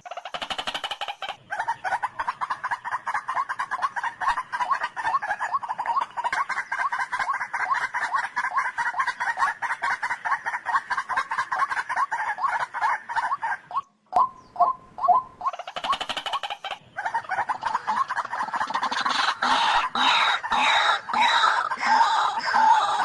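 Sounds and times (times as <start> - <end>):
bird clucking call: 0.0 - 23.0.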